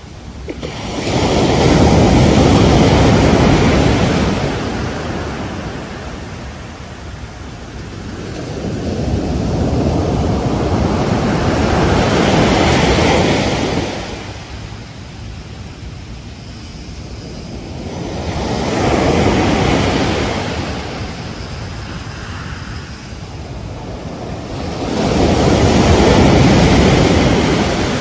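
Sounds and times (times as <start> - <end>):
hiss of receding surf: 0.0 - 28.0
wind on microphone: 0.0 - 28.0
ocean waves breaking: 0.3 - 14.9, 17.3 - 28.0.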